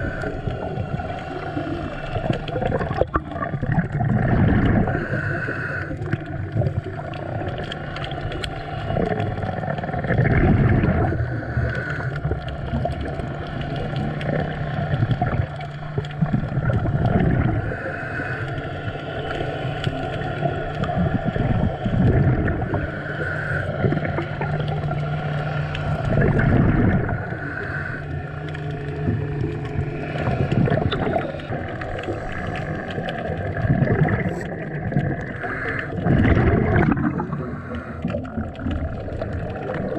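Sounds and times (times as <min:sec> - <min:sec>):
regulator exhale bubbles: 0:00.0 - 0:39.9.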